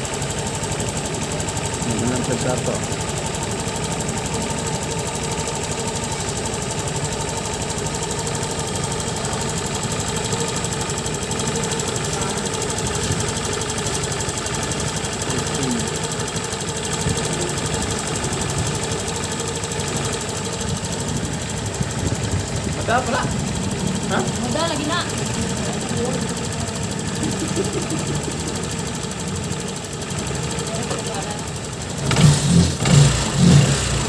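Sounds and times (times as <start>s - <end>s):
scooter engine running: 0.0s - 34.0s.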